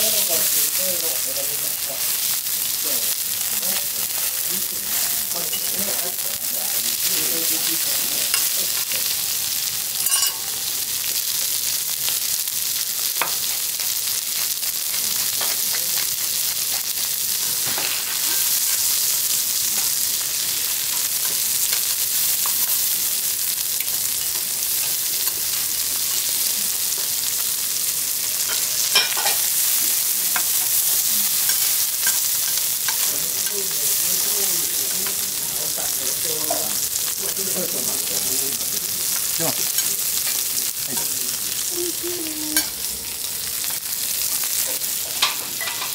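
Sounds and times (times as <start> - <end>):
meat sizzling on a griddle: 0.0 - 45.9.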